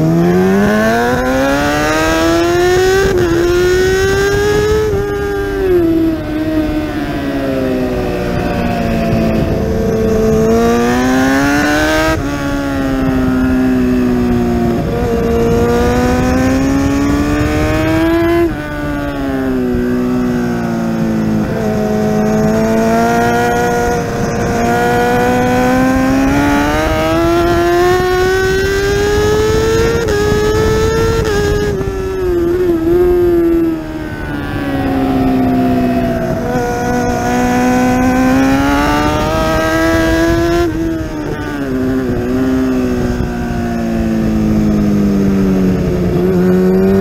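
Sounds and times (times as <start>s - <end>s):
racing motorcycle engine revving: 0.0s - 47.0s
wind rush: 0.0s - 47.0s.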